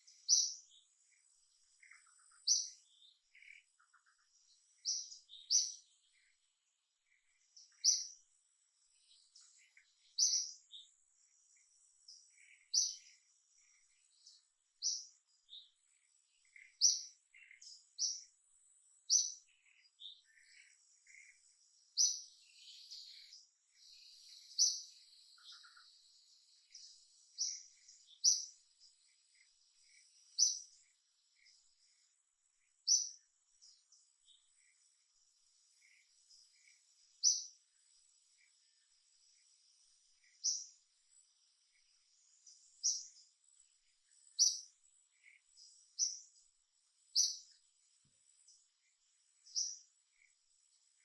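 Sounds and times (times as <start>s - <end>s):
faint high insect whine: 0.0s - 51.0s
small bird chirping: 0.0s - 51.0s.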